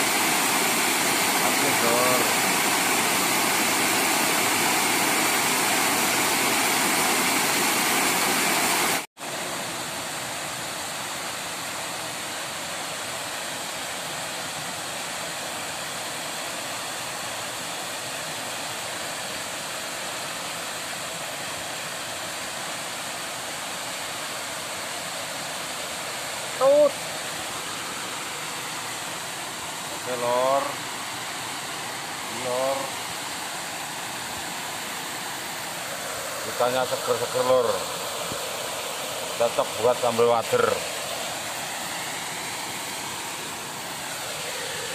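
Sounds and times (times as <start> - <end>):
water rushing over weir: 0.0 - 44.9.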